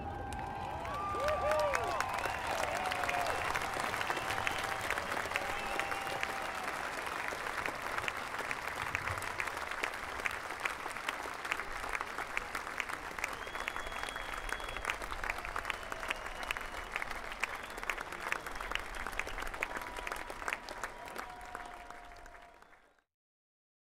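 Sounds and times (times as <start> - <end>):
crowd applauding: 0.0 - 23.1.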